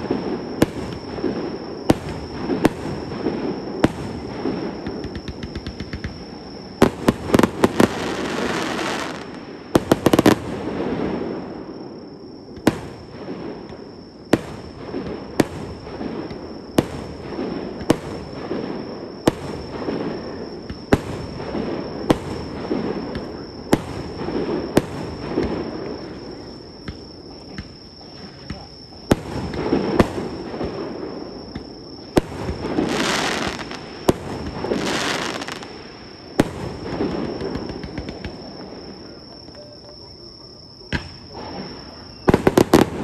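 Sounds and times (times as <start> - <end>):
fireworks crackling: 0.0 - 11.8, 12.4 - 39.0, 40.9 - 43.0
fireworks bursting: 0.0 - 39.2, 40.9 - 43.0.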